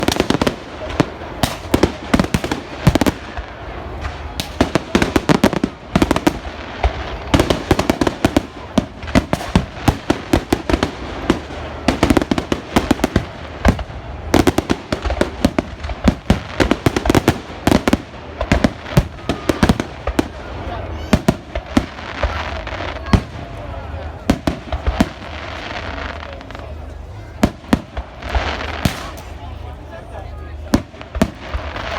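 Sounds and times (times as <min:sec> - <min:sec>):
fireworks bangs and crackling: 0:00.0 - 0:31.9.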